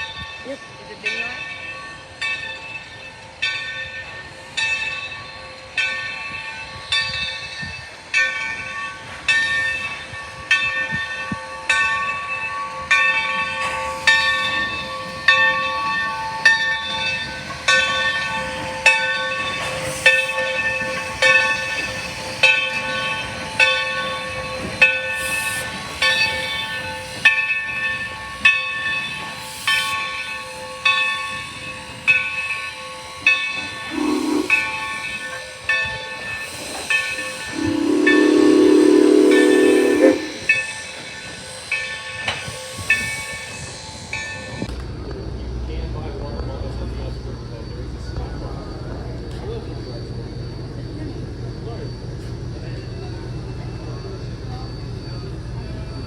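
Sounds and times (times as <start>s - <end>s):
locomotive bell ringing: 0.0s - 44.8s, 46.1s - 56.0s.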